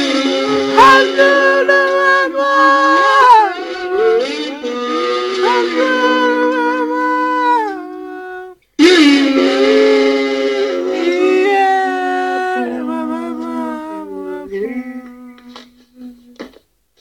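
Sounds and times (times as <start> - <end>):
women singing a cappella: 0.0 - 16.6.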